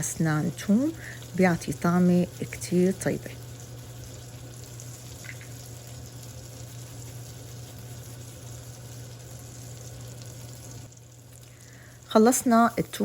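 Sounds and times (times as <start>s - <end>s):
hot oil sizzling in a pan: 0.0s - 13.0s
steady low hum: 0.0s - 13.0s.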